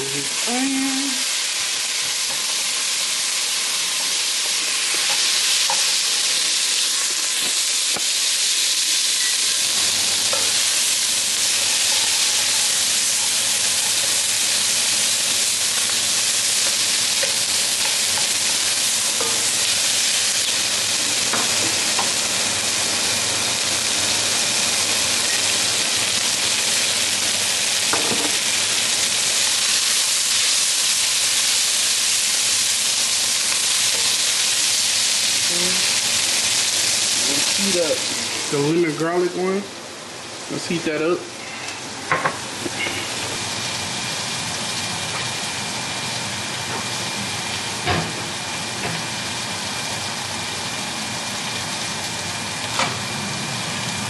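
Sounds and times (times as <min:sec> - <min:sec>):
onions sizzling in a pan: 0:00.0 - 0:54.0.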